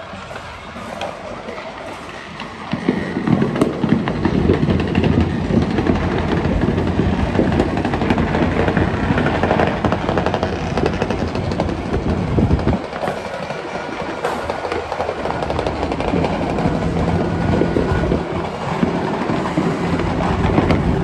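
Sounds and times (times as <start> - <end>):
fireworks crackling and popping: 0.0 - 21.0
rumble: 0.0 - 21.0.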